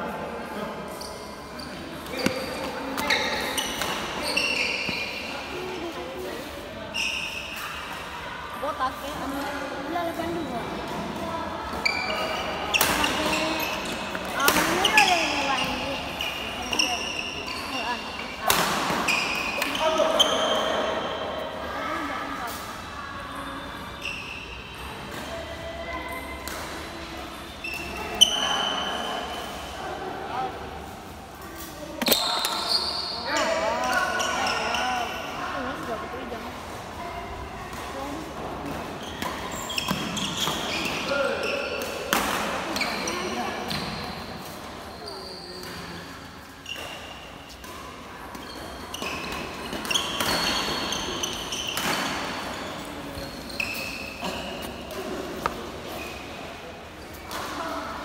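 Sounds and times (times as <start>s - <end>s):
shoes squeaking on court floor: 0.9s - 29.8s, 30.4s - 58.0s.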